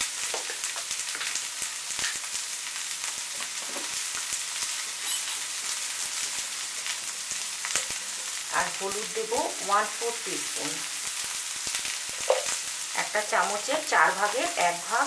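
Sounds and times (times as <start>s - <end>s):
fruit sizzling in hot oil: 0.0s - 15.0s.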